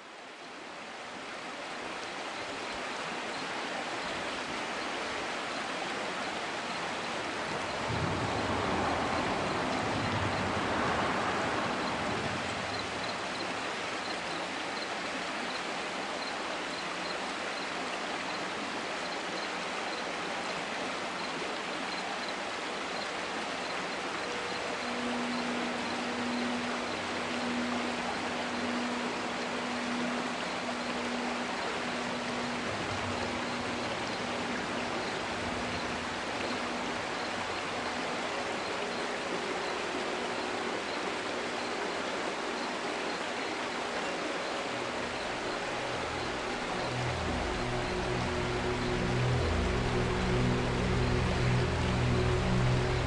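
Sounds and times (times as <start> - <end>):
faint steady hum: 0.0 - 53.0
river water rushing: 0.0 - 53.0.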